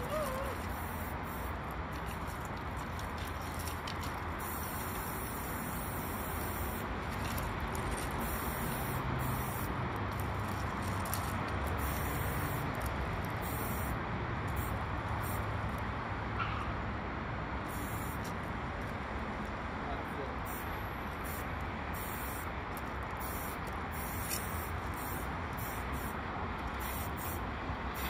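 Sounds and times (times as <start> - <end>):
spray paint can hissing: 0.0 - 15.5, 17.7 - 18.4, 21.2 - 28.0.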